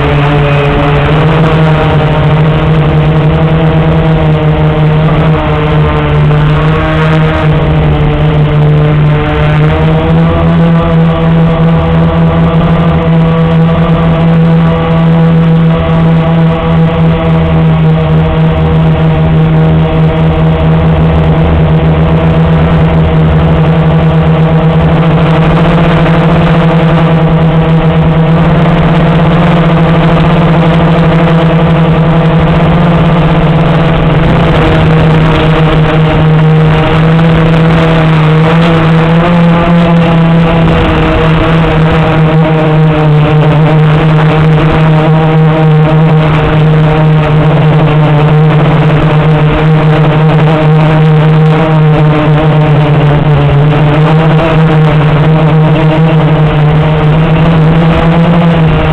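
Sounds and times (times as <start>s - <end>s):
quadcopter motors whining: 0.0s - 58.9s.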